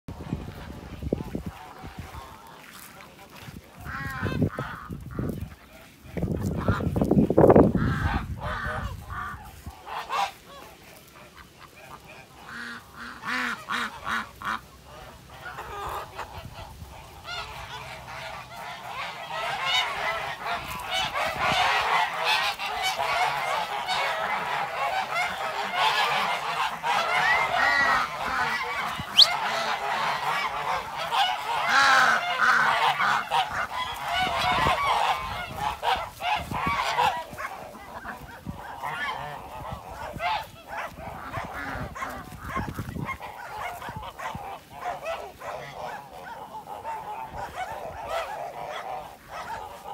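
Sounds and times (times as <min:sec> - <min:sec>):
flock of birds calling: 0:00.1 - 0:49.9.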